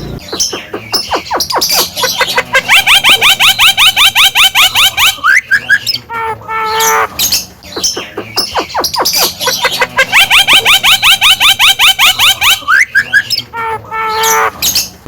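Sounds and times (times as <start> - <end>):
myna calling: 0.0 - 14.8.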